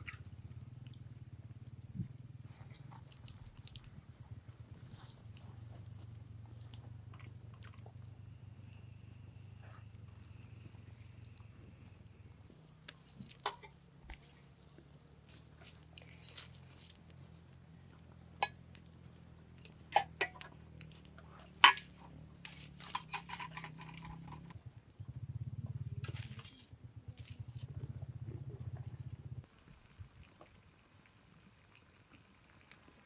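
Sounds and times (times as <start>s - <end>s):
low hum: 0.0s - 30.3s.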